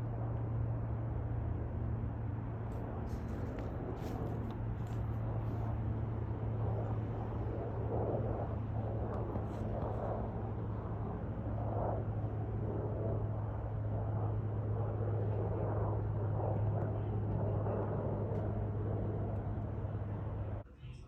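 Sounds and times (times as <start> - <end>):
aircraft engine drone: 0.0 - 20.7.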